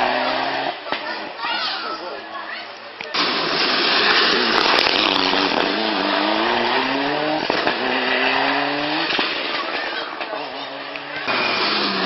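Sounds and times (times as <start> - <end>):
rally car engine roaring: 0.0 - 0.8, 3.2 - 12.0.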